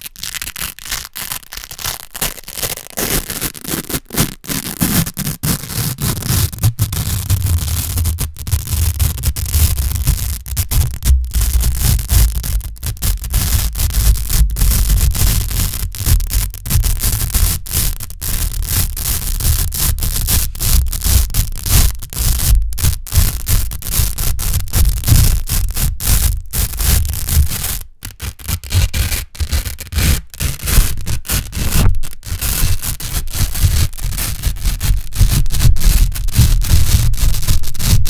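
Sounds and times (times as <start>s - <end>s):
velcro tape crackling: 0.0s - 38.0s.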